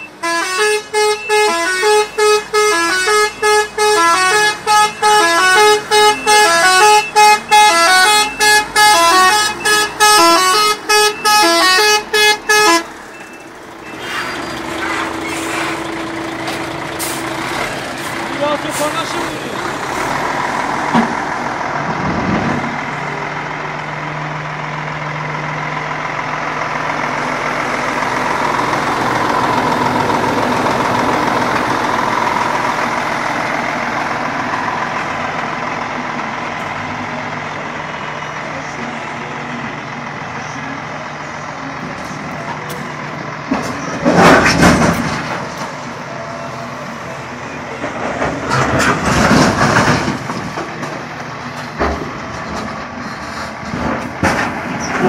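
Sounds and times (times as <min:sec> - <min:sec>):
truck diesel engine idling: 0:00.0 - 0:55.0.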